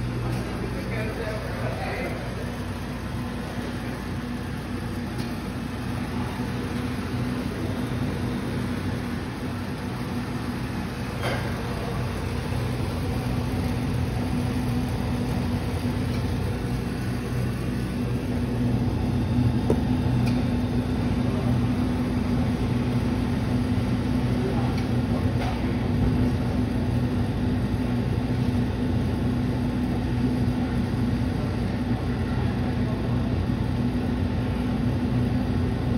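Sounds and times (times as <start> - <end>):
gas burner rushing: 0.0 - 32.9
coffee roaster machine hum: 0.0 - 35.9.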